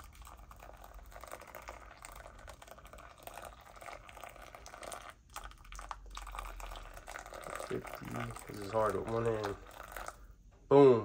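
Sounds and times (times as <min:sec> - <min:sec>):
water pouring into a bowl: 0:00.0 - 0:10.4.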